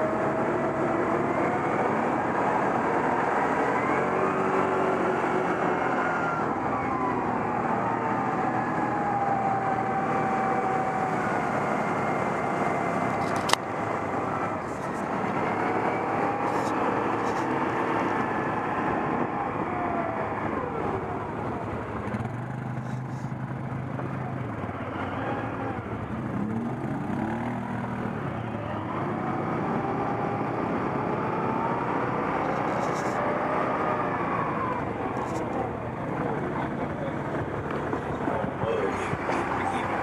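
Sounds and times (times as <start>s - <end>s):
atv engines revving: 0.0s - 40.0s.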